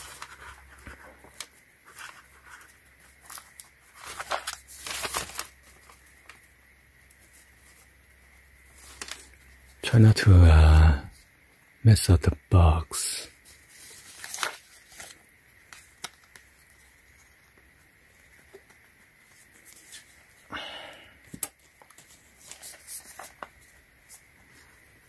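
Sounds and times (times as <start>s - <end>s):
wrapping rustling: 0.0s - 9.8s, 13.3s - 20.5s, 21.6s - 25.0s.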